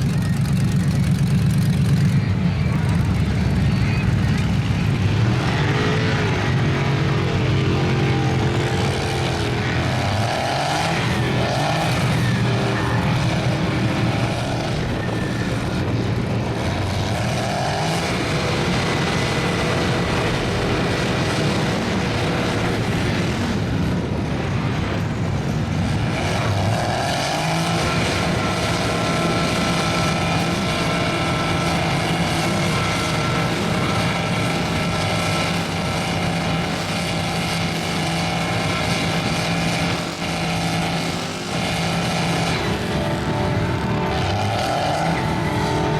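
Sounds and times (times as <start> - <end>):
mud and spinning tyres: 0.0 - 45.9
truck engines running hard: 0.0 - 45.9.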